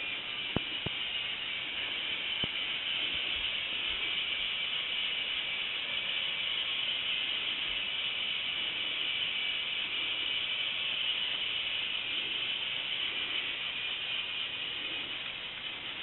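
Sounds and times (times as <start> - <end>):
toy roller coaster whirring: 0.0 - 16.0.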